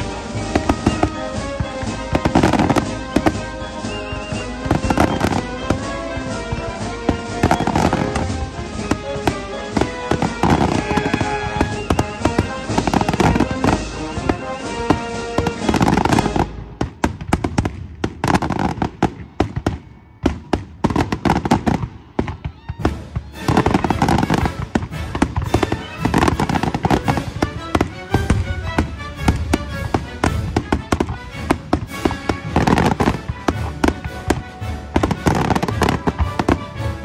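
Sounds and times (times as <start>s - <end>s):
music playing: 0.0s - 17.0s, 22.7s - 37.0s
fireworks bursting and crackling: 0.0s - 37.0s.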